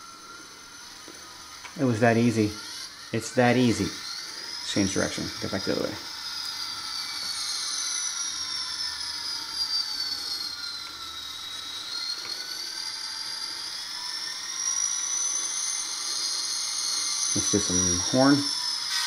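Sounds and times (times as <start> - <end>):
model locomotive whine: 0.0 - 19.0.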